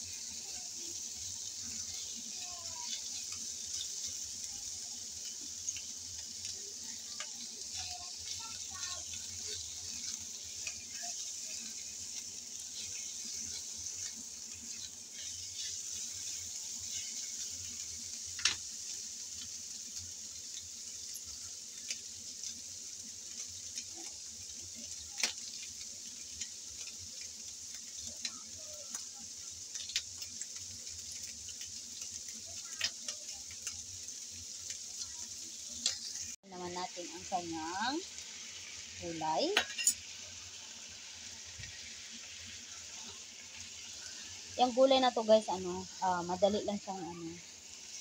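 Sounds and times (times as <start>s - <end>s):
food sizzling in oil: 0.0s - 48.0s.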